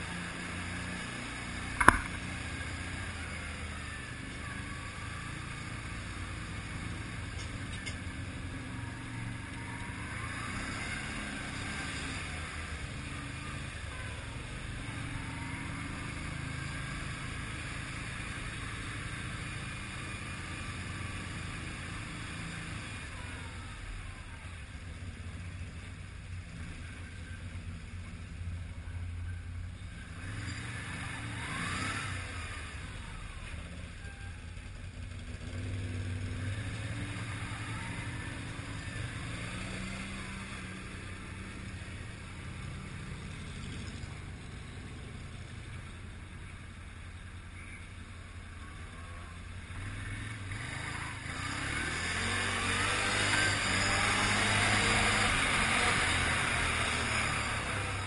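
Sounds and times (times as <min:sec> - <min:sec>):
another quad bike engine: 0:00.0 - 0:58.0
quad bike engine running: 0:00.0 - 0:58.0.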